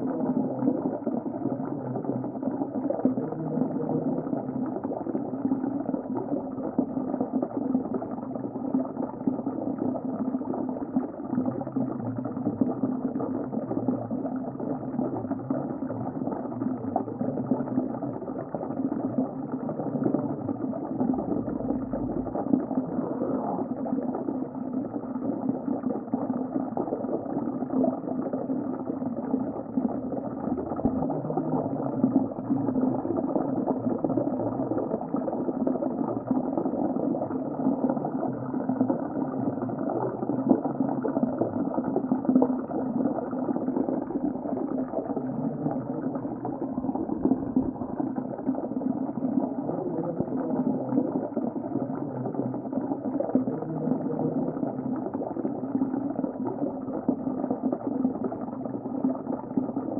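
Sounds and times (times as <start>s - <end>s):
underwater bubbling and gurgling: 0.0s - 59.9s.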